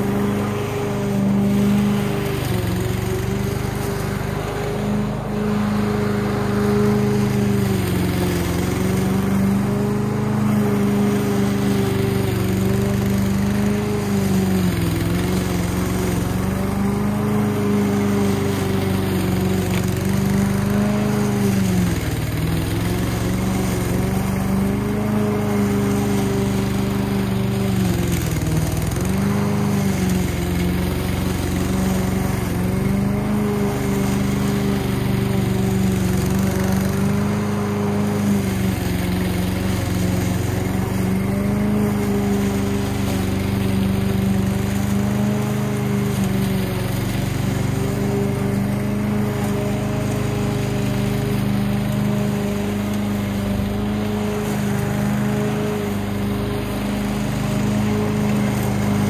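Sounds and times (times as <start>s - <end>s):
petrol lawn mower cutting grass: 0.0s - 59.0s.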